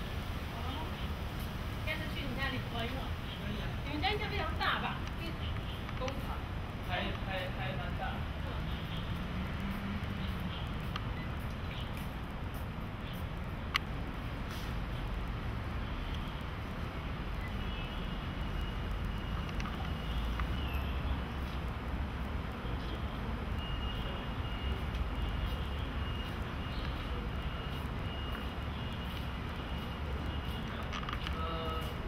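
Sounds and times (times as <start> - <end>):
low city rumble: 0.0 - 32.0.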